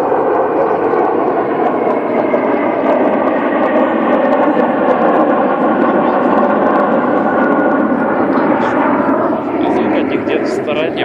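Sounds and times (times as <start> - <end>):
military jets roaring past: 0.0 - 11.0.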